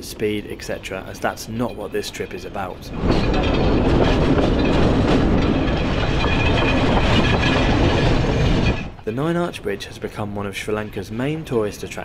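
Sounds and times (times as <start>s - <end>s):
train wheels rumbling on rails: 0.1s - 12.0s
clickety-clack over rail joints: 0.8s - 12.0s.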